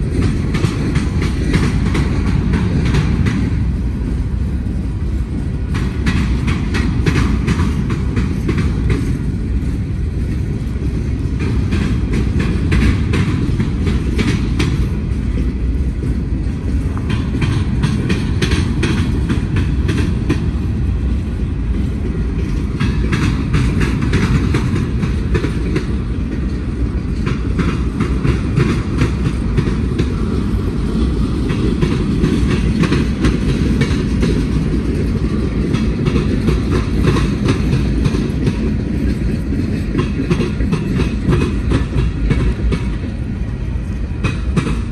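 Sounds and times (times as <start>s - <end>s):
freight train cars rumbling: 0.0s - 44.9s
train wheels clicking over rail joints: 0.0s - 44.9s.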